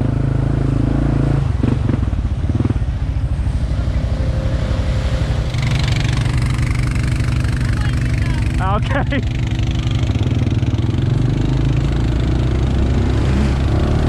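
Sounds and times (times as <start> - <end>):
atv engine rumbling: 0.0 - 14.0.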